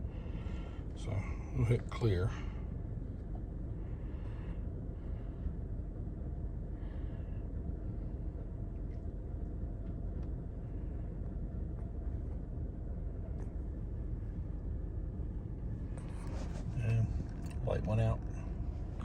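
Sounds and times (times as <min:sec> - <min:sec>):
car idling inside cabin: 0:00.0 - 0:19.0.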